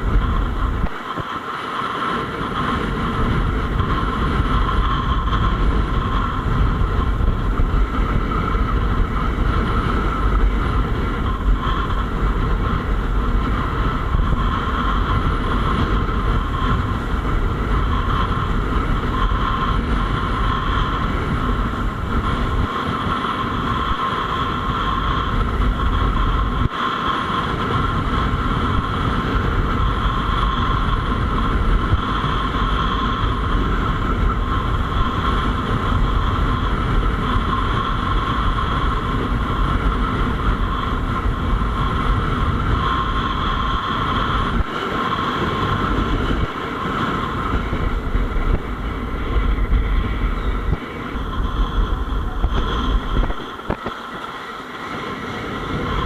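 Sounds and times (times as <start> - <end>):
high whine: 0.0 - 56.0
wind rumbling on microphone: 0.0 - 56.0.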